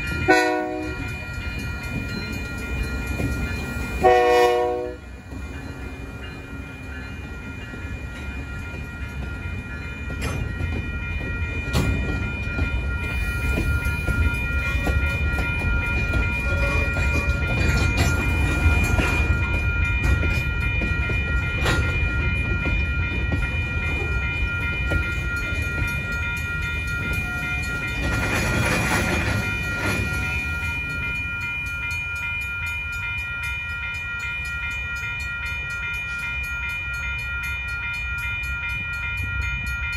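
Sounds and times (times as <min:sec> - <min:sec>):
crossing bell dinging: 0:00.0 - 0:39.9
train wheels rumbling and clacking: 0:00.0 - 0:39.9.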